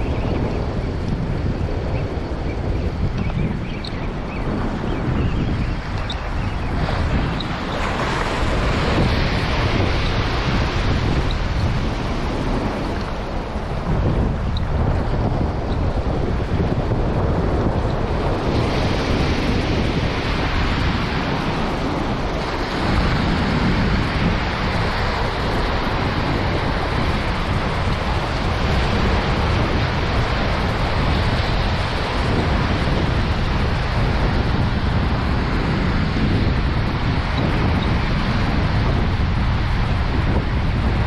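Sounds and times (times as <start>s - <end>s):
wind buffeting microphone: 0.0s - 41.0s
small surf washing over sand: 4.5s - 41.0s.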